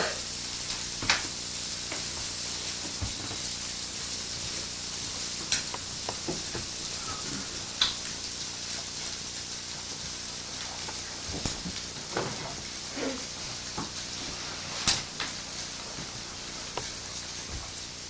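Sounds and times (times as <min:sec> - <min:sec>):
grains pouring with a hiss: 0:00.0 - 0:18.0.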